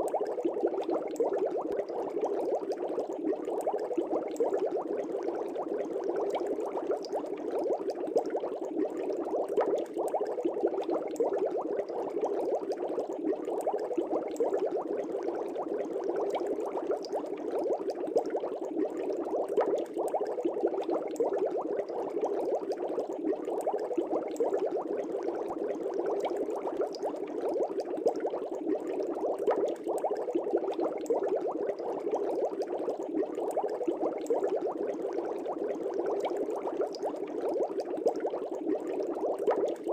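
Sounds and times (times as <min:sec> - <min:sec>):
fish tank water bubbling: 0:00.0 - 0:39.9.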